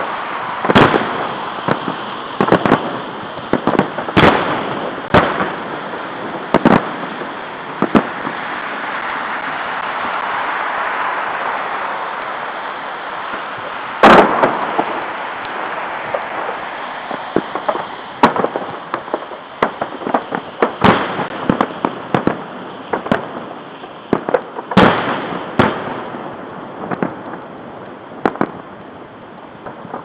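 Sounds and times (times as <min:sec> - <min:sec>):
firework bangs and crackles: 0:00.0 - 0:30.0
loud firework booms: 0:00.0 - 0:30.0.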